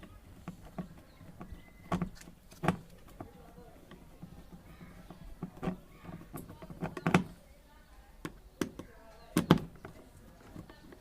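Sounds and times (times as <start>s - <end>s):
tools and parts knocking: 0.0s - 7.4s, 8.2s - 11.0s.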